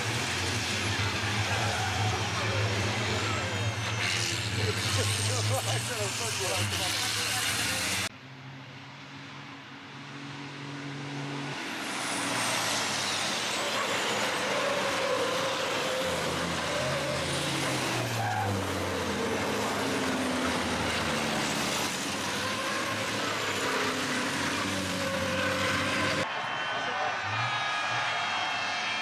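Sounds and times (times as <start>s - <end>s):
truck engines passing: 0.0s - 29.0s.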